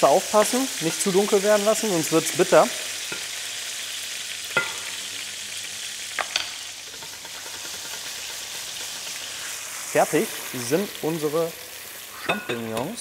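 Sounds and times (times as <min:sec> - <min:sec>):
mushrooms sizzling in hot oil: 0:00.0 - 0:13.0.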